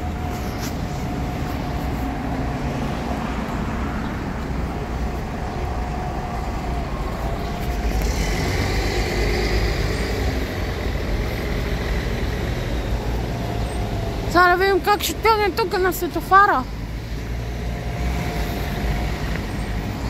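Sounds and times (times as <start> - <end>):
bus and car engines idling: 0.0 - 20.0.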